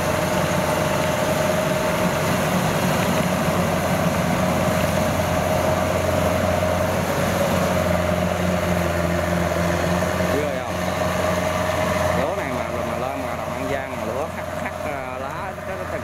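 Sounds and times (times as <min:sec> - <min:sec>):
combine harvester engine hum: 0:00.0 - 0:16.0.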